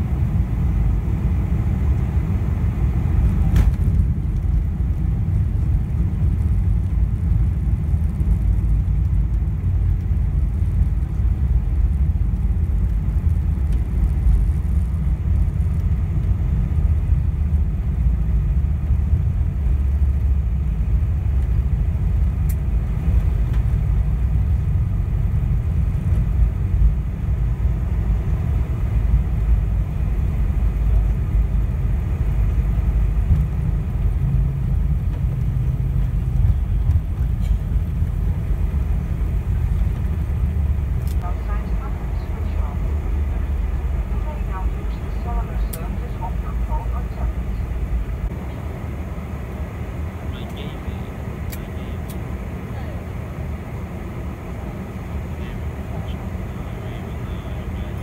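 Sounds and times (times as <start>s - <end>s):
airplane cabin rumble on runway: 0.0s - 58.0s.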